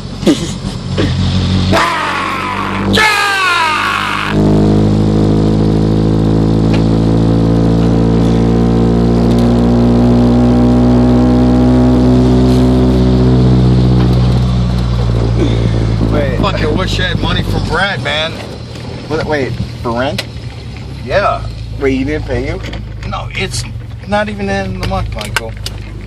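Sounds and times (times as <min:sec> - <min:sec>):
pickup engine droning: 0:00.0 - 0:26.0.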